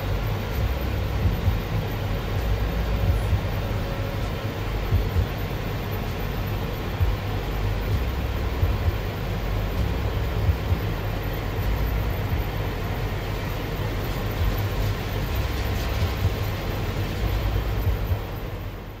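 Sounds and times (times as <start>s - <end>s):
car engine low rumble: 0.0s - 19.0s
hiss: 0.0s - 19.0s.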